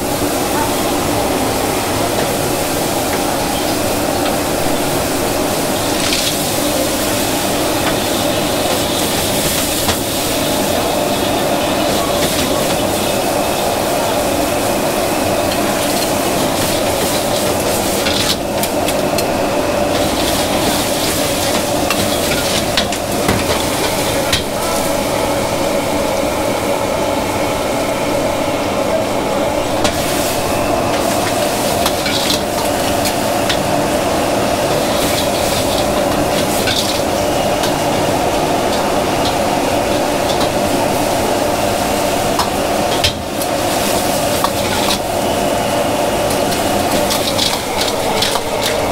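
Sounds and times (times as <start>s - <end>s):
food sizzling: 0.0s - 48.9s.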